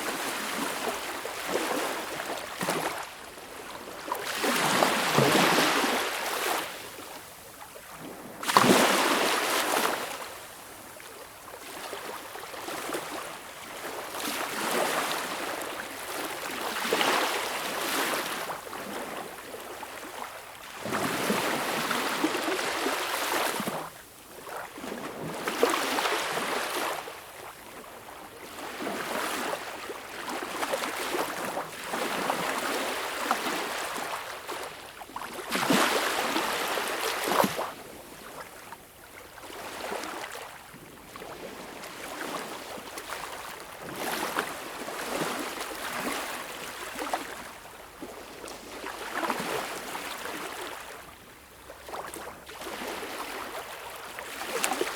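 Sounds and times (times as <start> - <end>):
small waves washing onto beach: 0.0 - 54.9.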